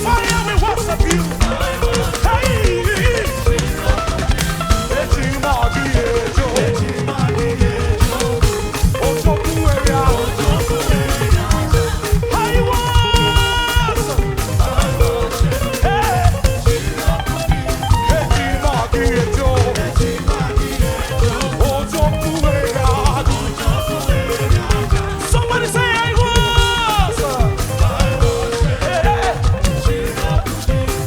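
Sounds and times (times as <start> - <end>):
drum and percussion beat: 0.0 - 31.0
upbeat praise band music: 0.0 - 31.0.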